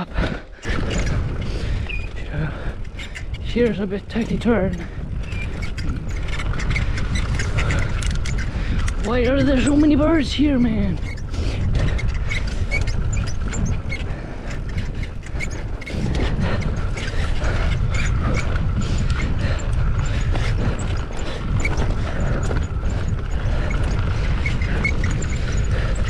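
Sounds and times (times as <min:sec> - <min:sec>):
bike chain and frame rattling: 0:00.0 - 0:26.0
bike tyres rumbling on dirt: 0:00.0 - 0:26.0
wind on microphone: 0:00.0 - 0:26.0.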